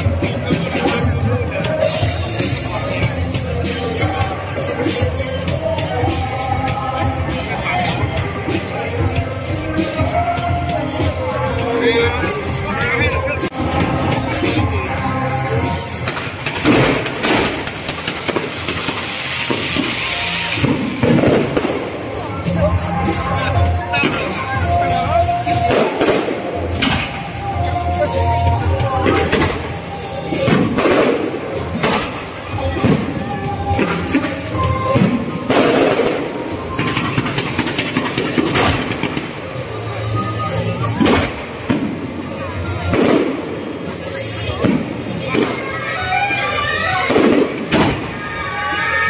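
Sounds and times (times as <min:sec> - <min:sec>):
festive music: 0:00.0 - 0:49.0
firecrackers crackling: 0:00.0 - 0:49.0.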